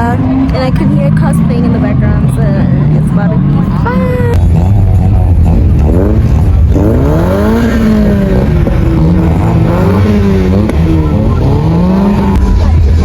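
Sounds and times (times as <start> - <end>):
car engines revving: 0.0 - 13.0
steady low rumble: 0.0 - 13.0.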